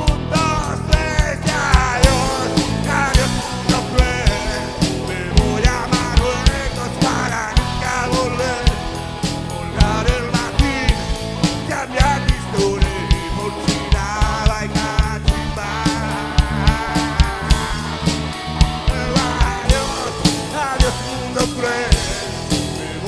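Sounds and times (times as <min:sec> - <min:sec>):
bass guitar: 0:00.0 - 0:23.0
drums beating steadily: 0:00.0 - 0:23.0
electric guitar: 0:00.0 - 0:23.0
voices singing: 0:00.0 - 0:23.0.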